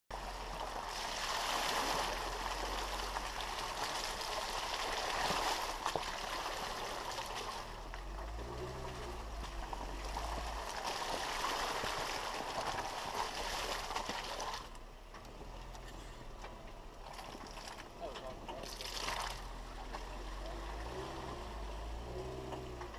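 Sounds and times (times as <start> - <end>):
car engine running low: 0.1 - 22.9
tyres splashing through mud: 0.1 - 22.9.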